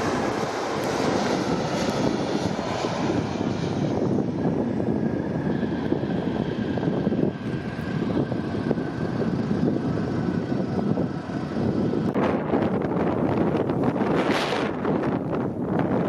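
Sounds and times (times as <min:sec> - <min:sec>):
airliner engines rumbling: 0:00.0 - 0:16.0
strong wind: 0:00.0 - 0:16.0
wind gust on microphone: 0:00.0 - 0:16.0.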